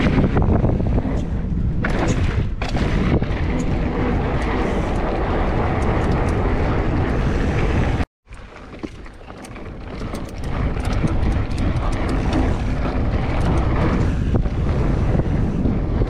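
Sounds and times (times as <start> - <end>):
wind buffeting microphone: 0.0 - 8.1, 8.8 - 16.0
bike tyre rumble: 0.0 - 16.0.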